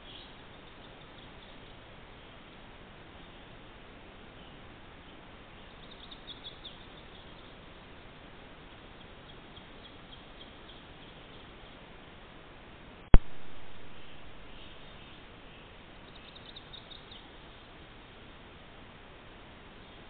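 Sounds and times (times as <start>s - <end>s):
microphone hiss: 0.0s - 20.0s.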